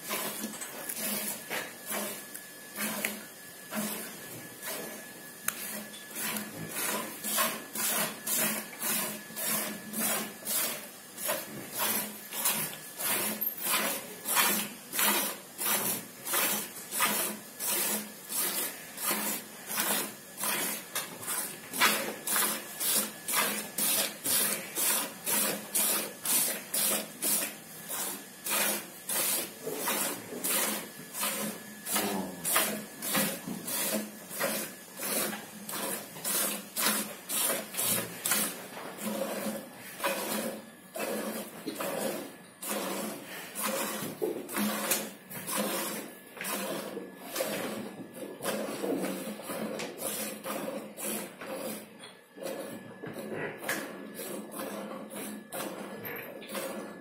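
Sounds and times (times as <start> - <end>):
milk squirting into bucket: 4.6 - 56.9.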